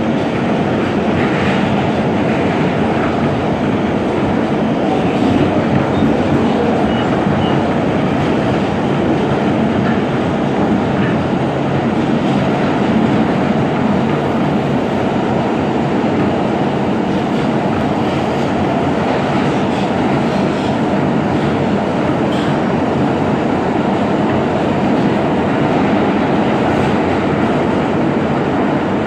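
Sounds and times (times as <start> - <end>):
subway train wheels rumbling: 0.0 - 29.0.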